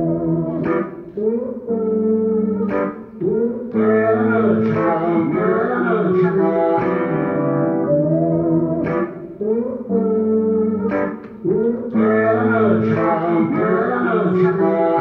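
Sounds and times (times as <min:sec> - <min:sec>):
guitar-led song: 0:00.0 - 0:15.0
person singing: 0:00.0 - 0:15.0.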